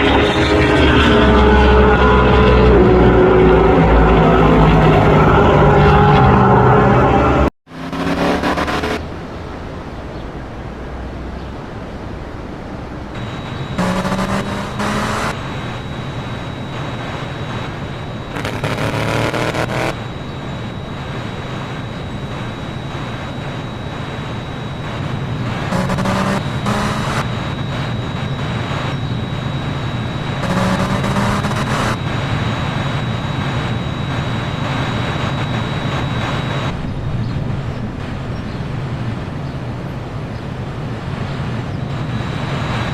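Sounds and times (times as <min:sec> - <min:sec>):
low rumble of engines: 0:00.0 - 0:42.9.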